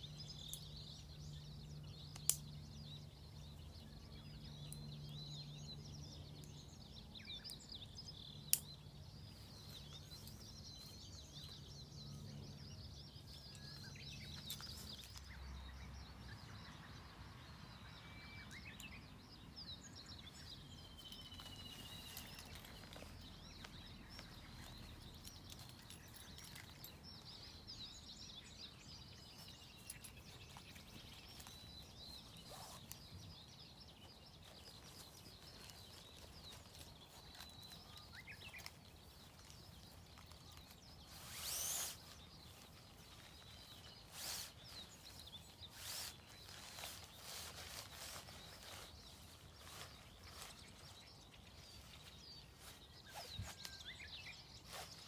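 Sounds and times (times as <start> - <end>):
faint birds chirping: 0.0 - 55.0
woodland ambience: 0.0 - 55.0.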